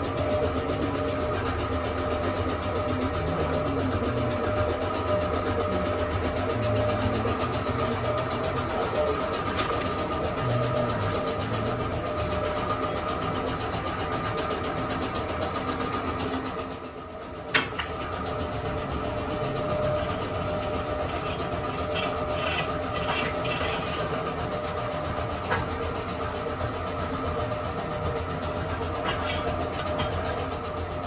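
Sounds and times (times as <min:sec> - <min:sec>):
lathe humming: 0:00.0 - 0:31.0.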